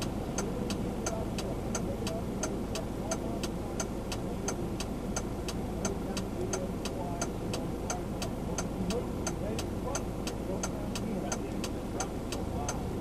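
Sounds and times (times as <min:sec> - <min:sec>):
turn-signal flasher ticking: 0:00.0 - 0:12.8
vehicle rumble in cabin: 0:00.0 - 0:13.0.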